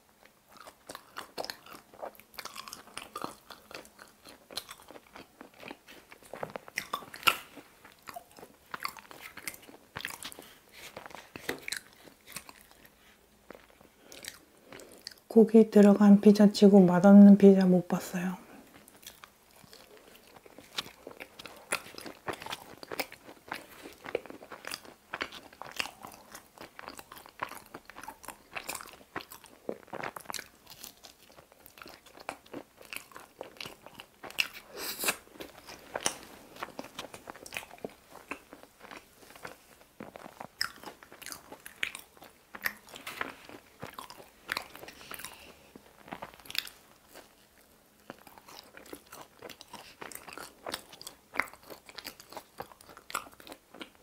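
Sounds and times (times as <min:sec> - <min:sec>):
crunchy pizza crust chewing: 0:00.1 - 0:15.3, 0:18.7 - 0:54.0.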